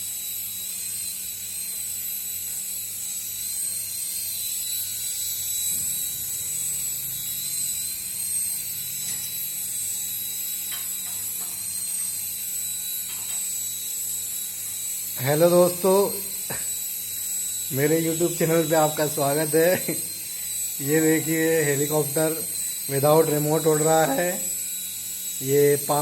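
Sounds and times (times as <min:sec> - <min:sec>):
toy helicopter motor whirring: 0:00.0 - 0:26.0.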